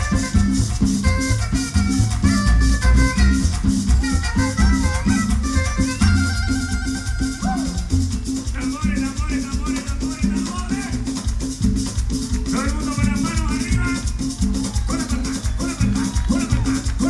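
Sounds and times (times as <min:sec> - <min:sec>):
salsa band playing: 0:00.0 - 0:17.0.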